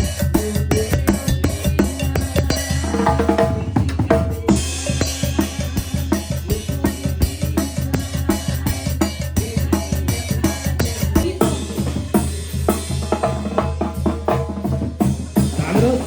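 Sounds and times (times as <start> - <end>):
bass line: 0.0 - 16.0
rhythmic drums: 0.0 - 16.0.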